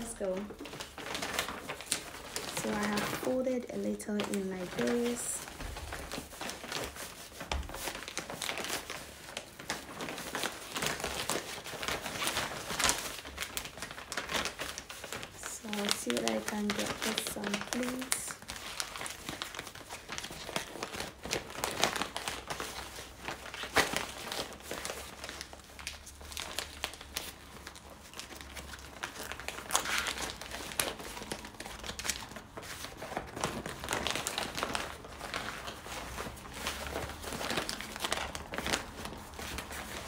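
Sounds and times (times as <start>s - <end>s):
stiff fabric crinkling and rustling: 0.0s - 40.0s.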